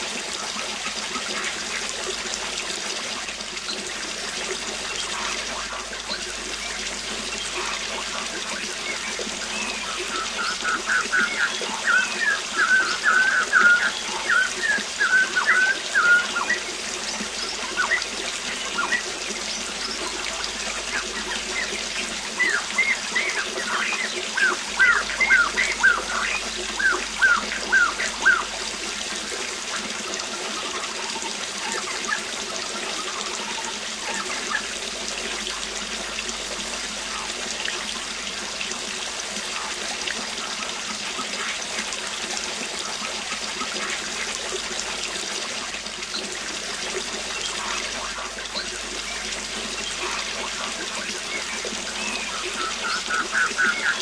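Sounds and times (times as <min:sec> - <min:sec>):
waterfall rushing: 0:04.6 - 0:54.0.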